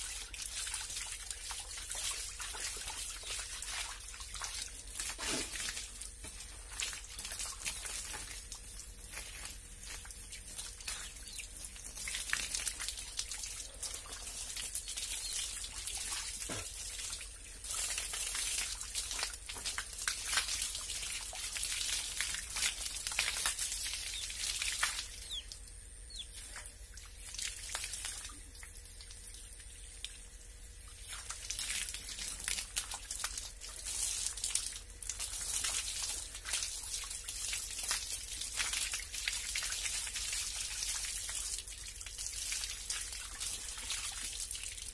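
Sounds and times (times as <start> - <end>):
hose water splashing on concrete: 0.0 - 44.9.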